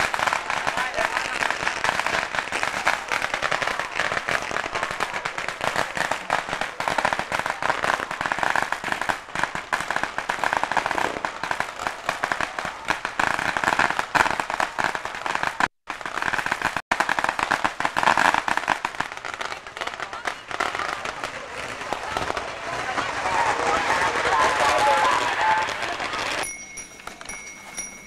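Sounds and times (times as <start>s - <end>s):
firecrackers crackling: 0.0s - 28.0s.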